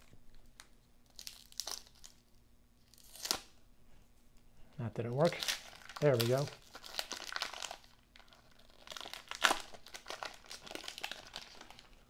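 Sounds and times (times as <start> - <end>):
paper wrapper crinkling and tearing: 0.0 - 3.5, 5.1 - 12.0.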